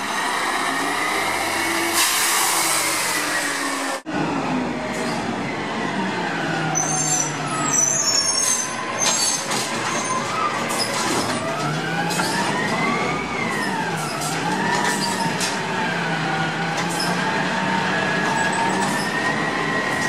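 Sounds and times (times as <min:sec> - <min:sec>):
garbage truck diesel engine: 0:00.0 - 0:20.0.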